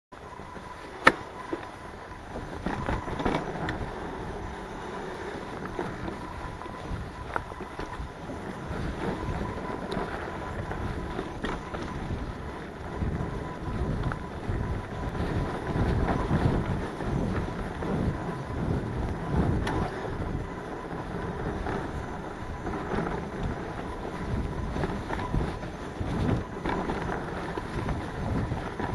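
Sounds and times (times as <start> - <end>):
bike tyre rumble on dirt: 0.1 - 28.9
wind buffeting microphone: 0.1 - 28.9
bike clicks and rattles: 0.2 - 28.9.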